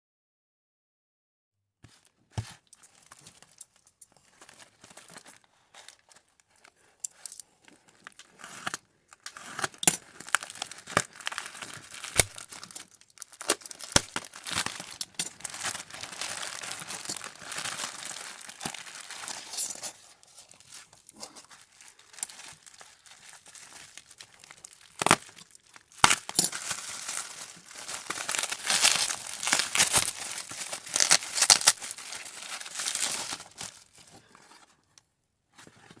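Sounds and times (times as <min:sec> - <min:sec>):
packaging crinkling and tearing: 0:02.0 - 0:34.6.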